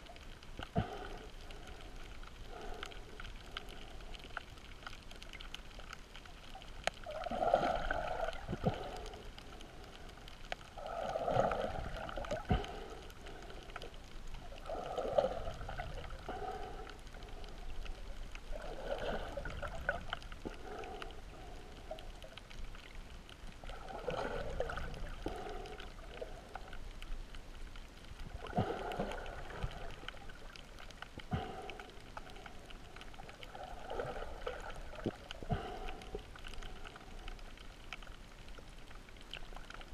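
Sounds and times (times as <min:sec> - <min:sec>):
muffled snorkel breathing: 0:00.1 - 0:38.2.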